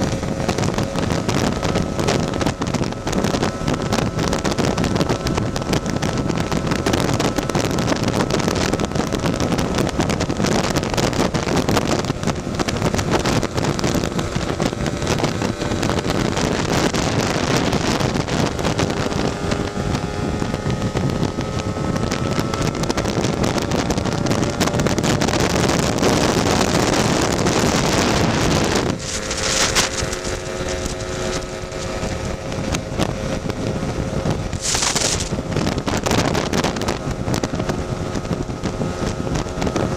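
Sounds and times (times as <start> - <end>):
scooter engine running: 0.0 - 39.9
wind noise on microphone: 0.0 - 39.9.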